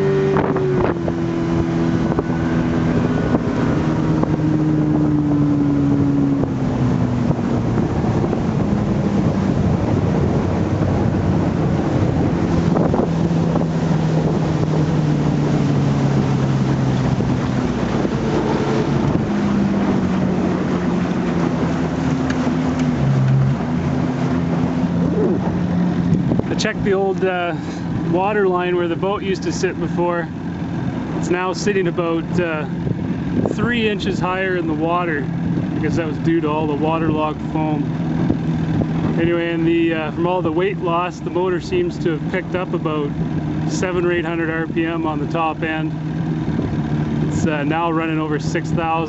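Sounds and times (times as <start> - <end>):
outboard motor running: 0.0 - 49.0
wind buffeting microphone: 0.0 - 49.0.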